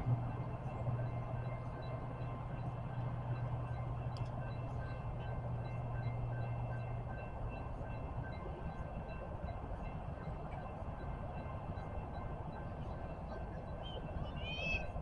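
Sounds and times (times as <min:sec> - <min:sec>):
train running by: 0:00.0 - 0:15.0.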